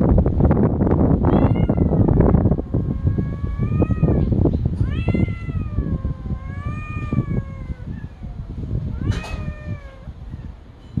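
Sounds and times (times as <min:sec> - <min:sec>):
cat meowing: 0:01.2 - 0:10.5.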